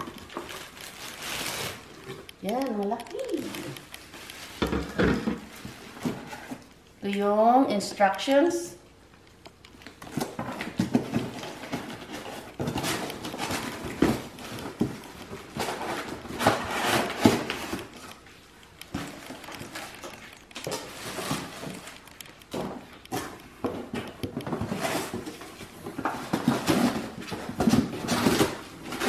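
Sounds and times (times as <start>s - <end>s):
packaging rustling: 0.0s - 6.8s, 9.6s - 29.0s.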